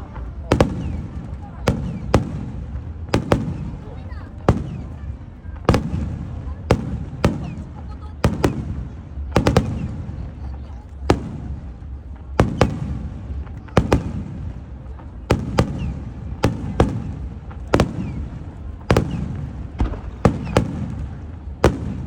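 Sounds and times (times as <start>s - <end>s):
fireworks bangs with rumble: 0.0s - 22.0s.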